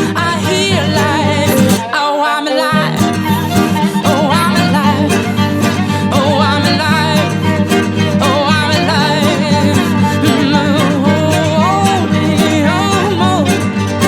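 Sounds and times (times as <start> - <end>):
person singing: 0.0 - 14.0
upbeat song with guitar and fiddle: 0.0 - 14.0.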